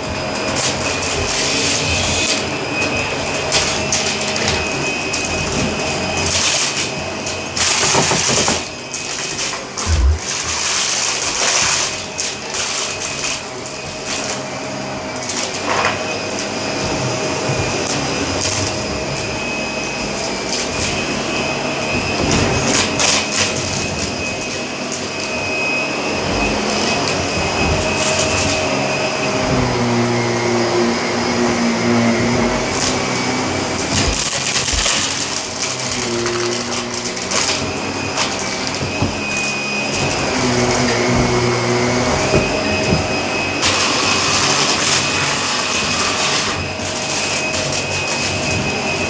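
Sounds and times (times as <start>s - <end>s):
vacuum cleaner motor whine: 0.0s - 49.0s.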